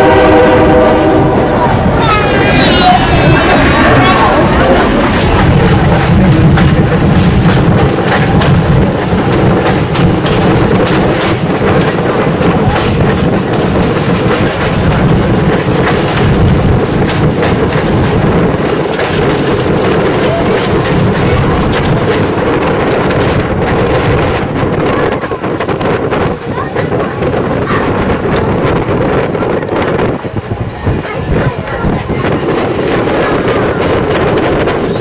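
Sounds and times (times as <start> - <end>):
train coaches rumbling: 0.0 - 35.0
wheels clicking over rails: 1.6 - 30.3.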